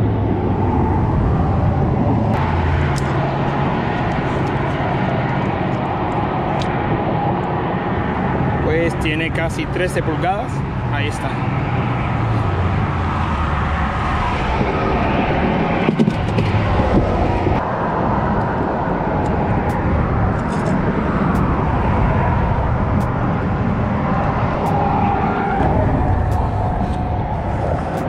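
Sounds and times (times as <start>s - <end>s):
road traffic rumble: 0.0s - 28.0s
wind: 0.0s - 28.0s.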